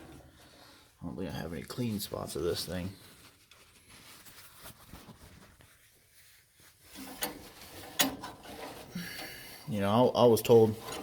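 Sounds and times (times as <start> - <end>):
faint rubbing and handling: 0.0 - 11.0.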